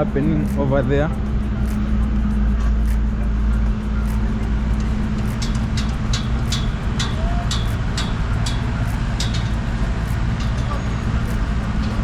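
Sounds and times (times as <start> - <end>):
road traffic rumble: 0.0 - 12.0
site machinery rumble: 0.0 - 12.0.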